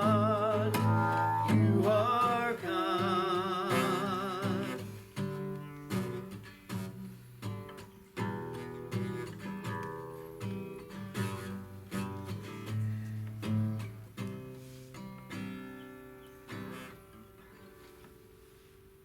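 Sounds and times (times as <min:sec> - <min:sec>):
acoustic guitar strumming: 0:00.0 - 0:17.1.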